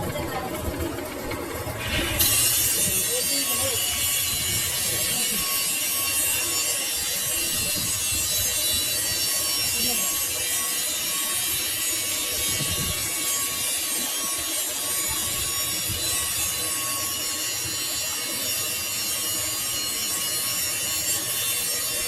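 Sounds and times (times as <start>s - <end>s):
lathe tool scraping hiss: 1.8s - 22.0s.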